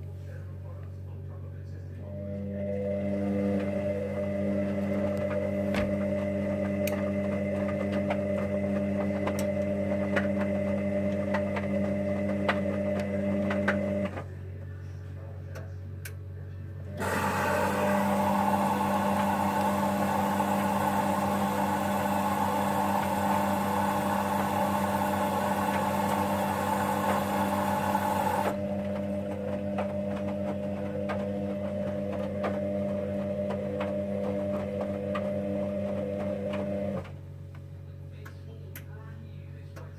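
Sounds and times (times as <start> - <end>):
washing machine drum humming: 2.1 - 14.3, 16.9 - 38.9.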